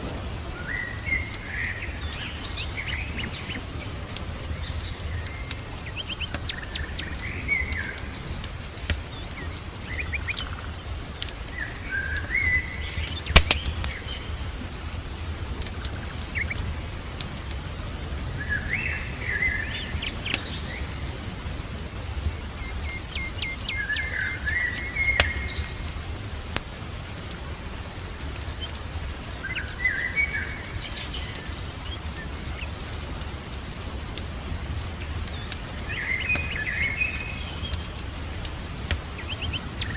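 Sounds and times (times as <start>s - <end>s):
birds chirping: 0.0s - 39.9s
steady low rumble: 0.0s - 39.9s
wood fire crackling and popping: 0.0s - 39.9s.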